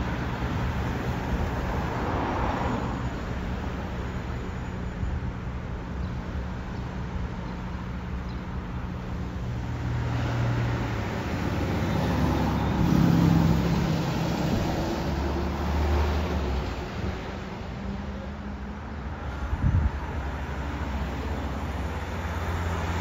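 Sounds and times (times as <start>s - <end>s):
bus engine droning: 0.0s - 23.0s
road noise: 0.0s - 23.0s.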